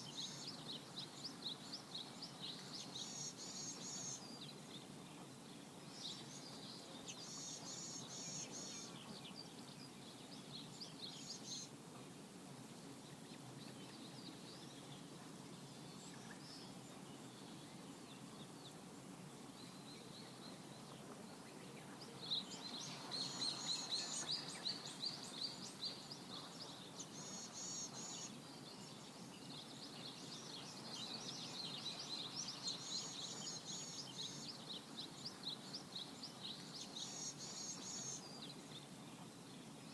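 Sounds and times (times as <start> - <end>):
small birds chirping: 0.0 - 11.8, 12.9 - 39.9
low background noise: 0.0 - 39.9.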